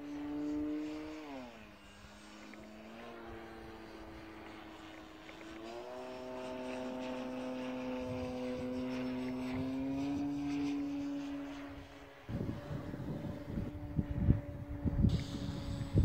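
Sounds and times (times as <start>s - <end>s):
model plane electric motor whine: 0.0s - 16.0s.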